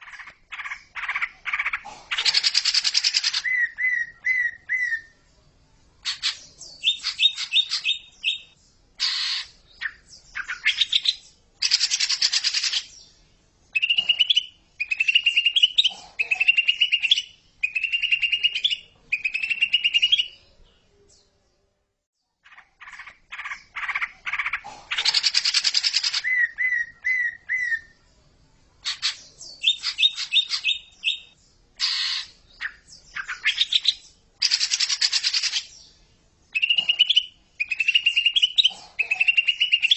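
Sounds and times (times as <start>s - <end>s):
bird singing chirps and trills: 0.0s - 5.4s, 6.0s - 21.5s, 22.2s - 39.9s.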